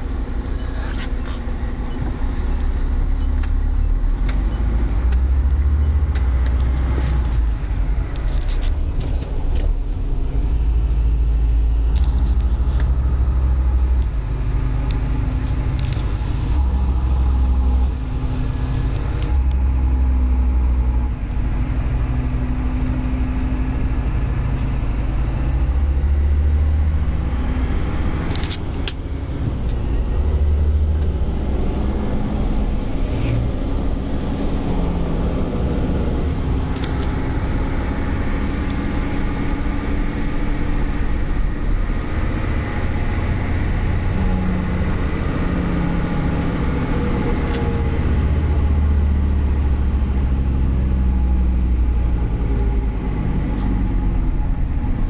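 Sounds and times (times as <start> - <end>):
diesel truck engine droning: 0.0 - 55.0.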